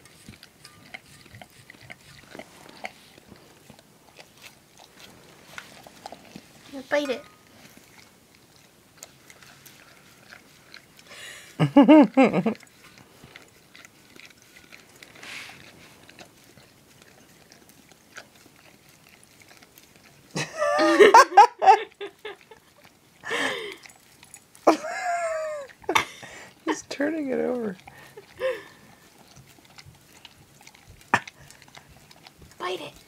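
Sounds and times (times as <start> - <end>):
dog licking in metal bowl: 0.0 - 33.0.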